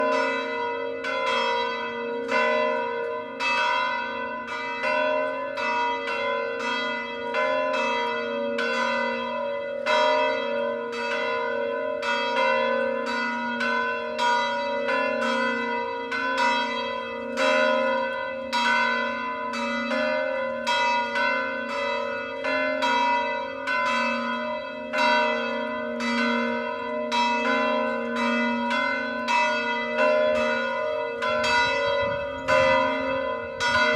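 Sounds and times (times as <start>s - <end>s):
church bells ringing a peal: 0.0s - 33.9s.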